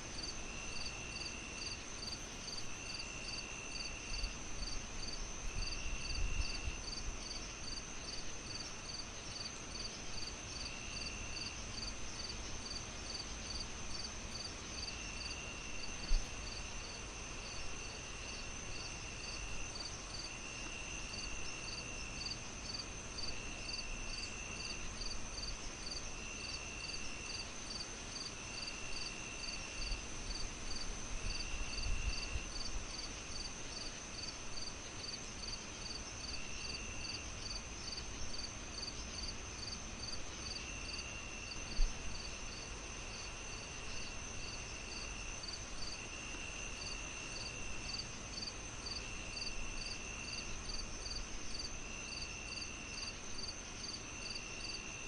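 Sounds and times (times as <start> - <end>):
crickets chirping: 0.1 - 55.0.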